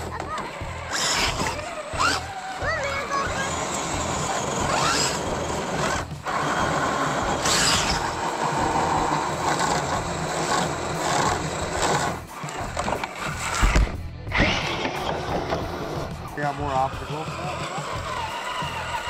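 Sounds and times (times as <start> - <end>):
radio-controlled car motors running: 0.0 - 19.0.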